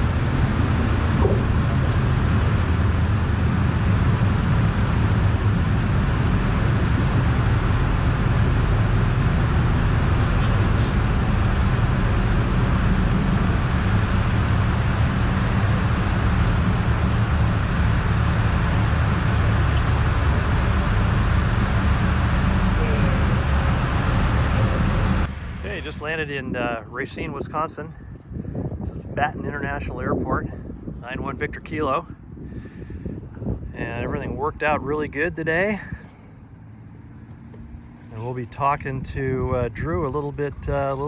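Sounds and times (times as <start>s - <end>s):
aircraft cabin engine drone: 0.0s - 41.0s.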